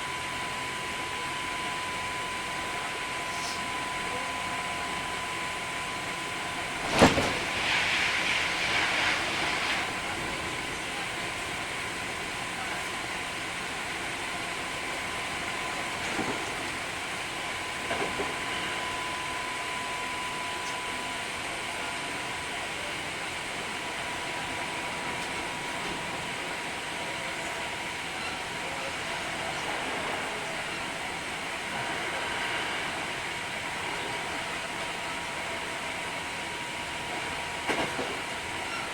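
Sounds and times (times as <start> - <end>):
electric train rumble and whine: 0.0 - 38.9.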